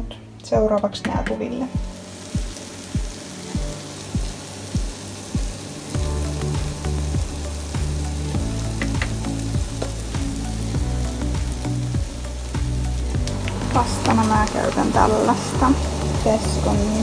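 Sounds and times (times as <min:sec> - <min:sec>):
background music with low beat: 0:00.0 - 0:17.0
meat sizzling in a frying pan: 0:01.5 - 0:17.0.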